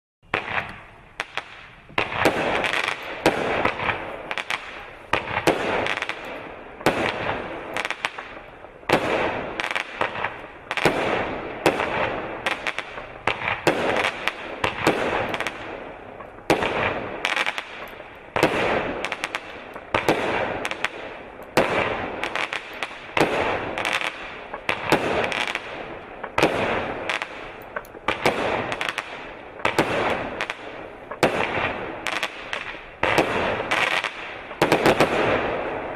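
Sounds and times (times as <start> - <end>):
firework shots banging: 0.3 - 35.9.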